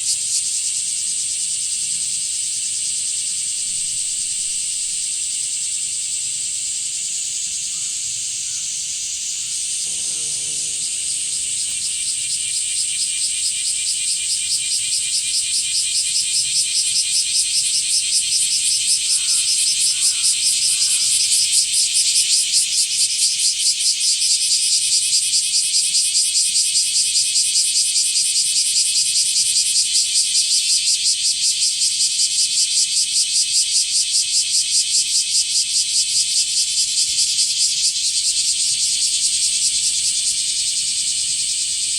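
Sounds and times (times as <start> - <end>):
cicada chorus drone: 0.0 - 41.9
pulsing insect song: 0.0 - 41.9.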